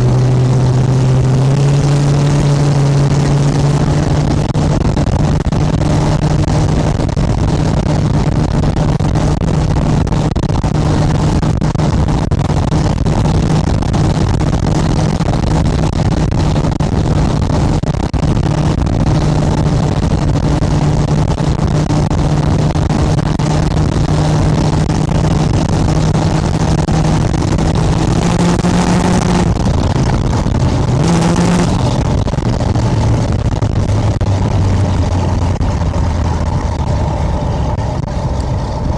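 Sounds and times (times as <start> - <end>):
trike engine running: 0.0 - 38.9.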